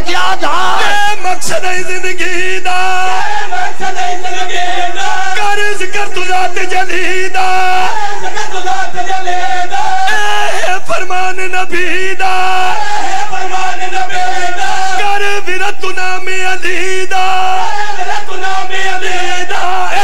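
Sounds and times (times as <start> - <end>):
man chanting into microphone: 0.0 - 20.0.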